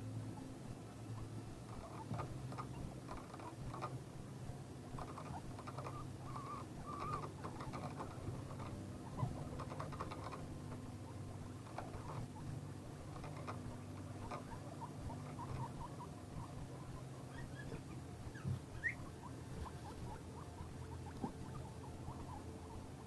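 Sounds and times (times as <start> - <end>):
steady low hum: 0.0 - 23.0
guinea pig squeaks: 1.1 - 4.0, 4.9 - 23.0
guinea pigs rustling in hay: 1.6 - 4.0, 5.0 - 23.0.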